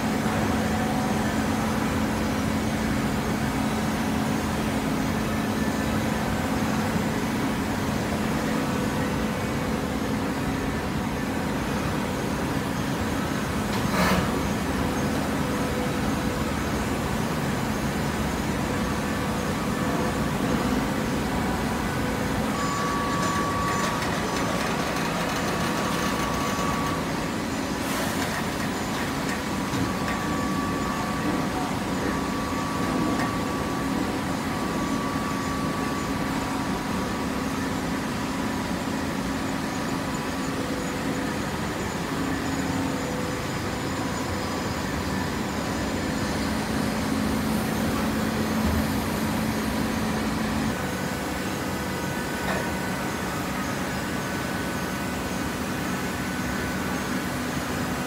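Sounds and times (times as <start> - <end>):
faint machine whine: 0.0 - 58.0
hydraulic baler humming: 0.0 - 58.0.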